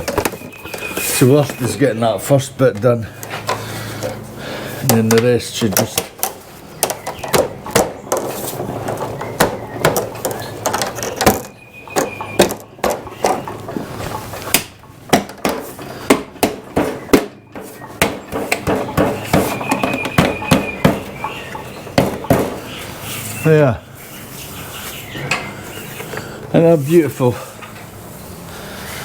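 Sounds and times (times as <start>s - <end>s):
plastic squeaks: 0.0s - 4.2s, 5.8s - 16.1s, 16.7s - 26.4s.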